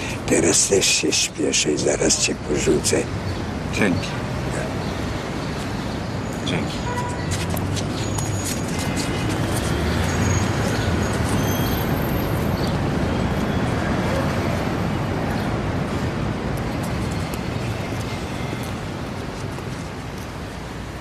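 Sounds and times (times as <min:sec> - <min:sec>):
passing cars rumble: 0:01.7 - 0:21.0.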